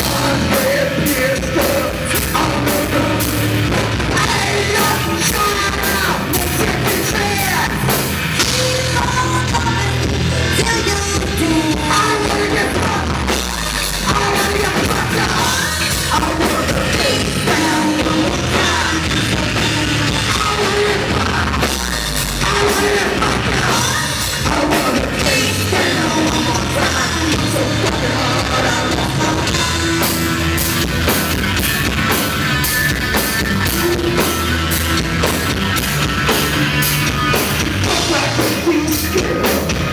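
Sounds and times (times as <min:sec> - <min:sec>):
person singing: 0:00.0 - 0:30.2, 0:37.3 - 0:39.9
distorted guitars: 0:00.0 - 0:39.9
pounding drum kit: 0:00.0 - 0:39.9.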